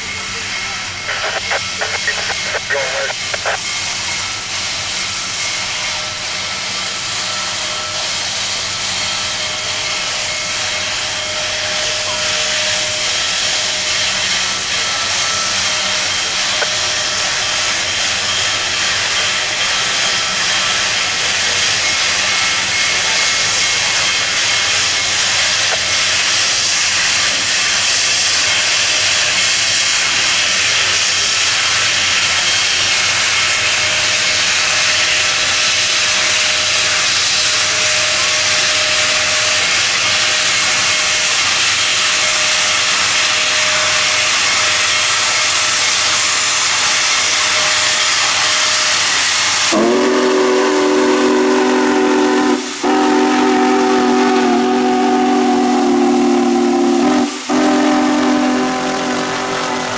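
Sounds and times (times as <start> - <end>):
steam hissing: 0.0 - 59.9.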